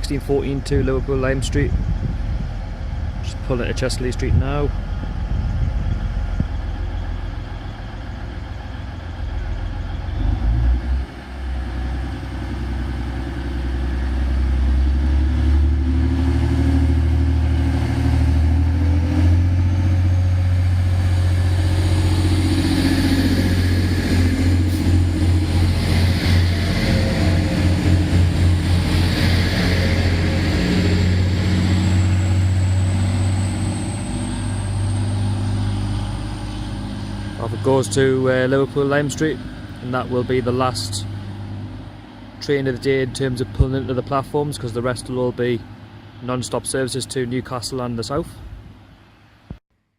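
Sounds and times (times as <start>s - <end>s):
diesel train engines droning: 0.0s - 49.5s.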